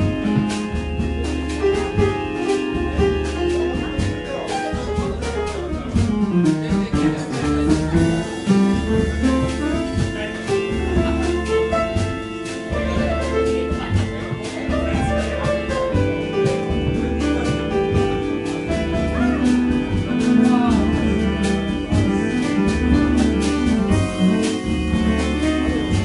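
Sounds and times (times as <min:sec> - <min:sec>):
jazz trio playing: 0:00.0 - 0:26.0.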